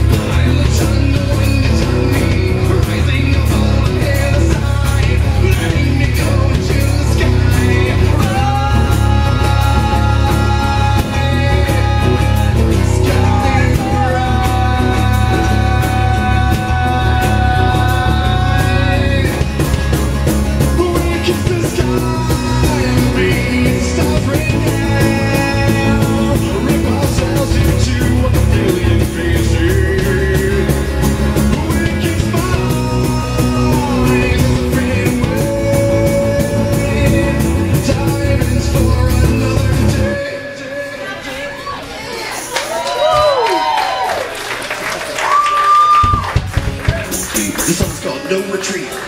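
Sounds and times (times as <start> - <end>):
drums with a steady beat: 0.0 - 40.3, 45.7 - 49.0
person singing lead vocal: 0.0 - 43.4
acoustic guitar: 0.0 - 49.0
bass guitar: 0.0 - 49.0.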